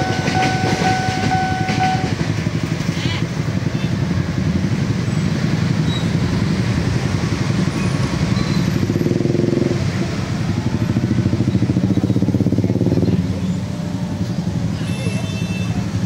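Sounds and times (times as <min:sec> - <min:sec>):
motorcycle and traffic engines: 0:00.0 - 0:16.0.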